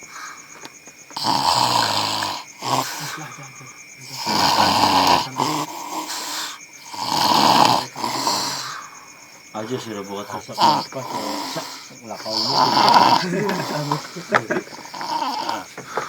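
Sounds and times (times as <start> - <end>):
weak breath: 0.0 - 16.0
man snoring loudly: 1.2 - 9.0, 9.6 - 16.0.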